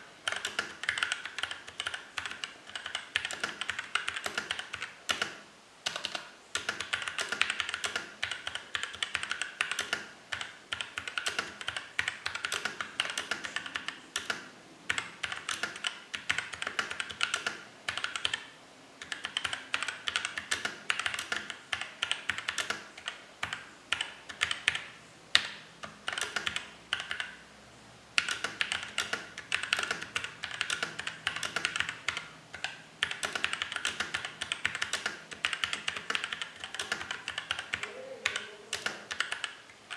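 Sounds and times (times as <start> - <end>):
mechanical keyboard typing: 0.2 - 27.4, 28.2 - 39.9.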